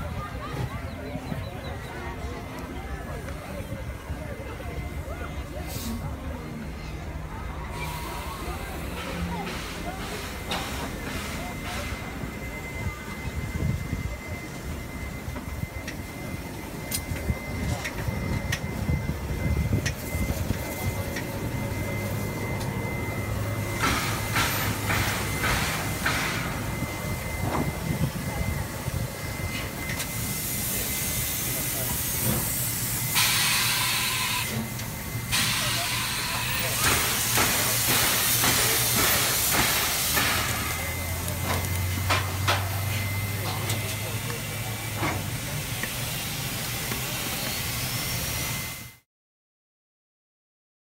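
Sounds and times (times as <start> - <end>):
steam locomotive rumble: 0.0 - 49.0
thin steady whine: 0.0 - 49.0
hissing steam beats: 5.5 - 49.0.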